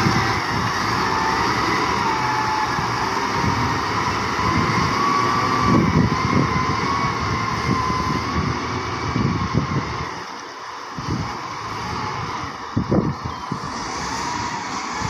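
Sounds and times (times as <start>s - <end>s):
diesel engine rumbling under load: 0.0s - 15.0s.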